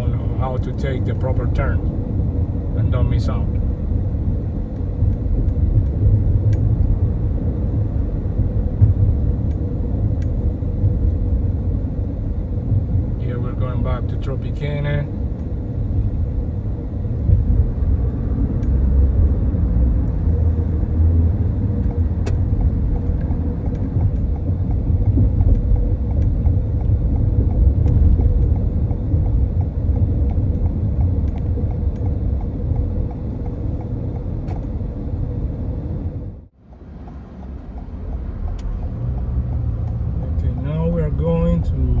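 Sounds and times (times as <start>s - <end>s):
car tyre and road noise: 0.0s - 42.0s.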